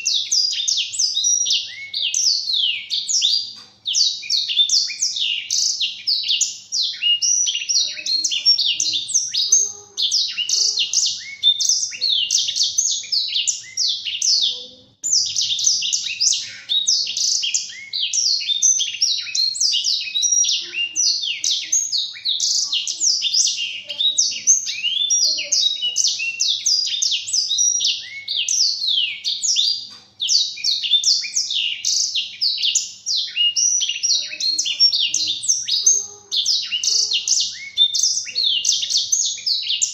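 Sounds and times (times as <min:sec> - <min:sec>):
canary singing fast warble: 0:00.0 - 0:39.9.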